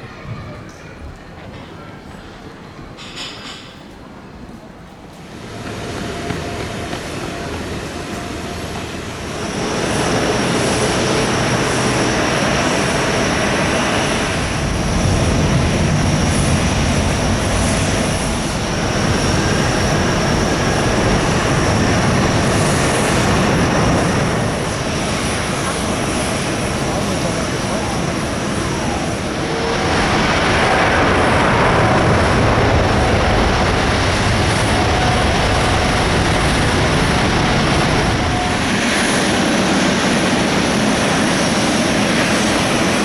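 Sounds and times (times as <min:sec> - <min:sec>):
jet engines running loud: 0:05.1 - 0:43.0.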